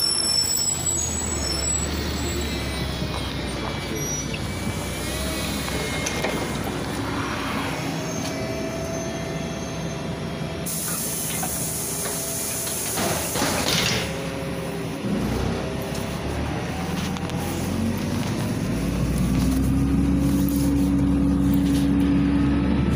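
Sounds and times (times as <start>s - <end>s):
bus engine idling: 0.0s - 22.9s.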